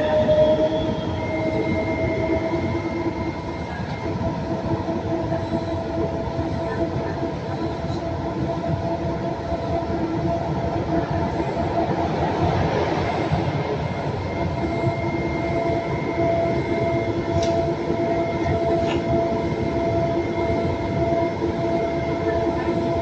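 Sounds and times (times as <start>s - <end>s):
train rolling rumble: 0.0s - 23.0s.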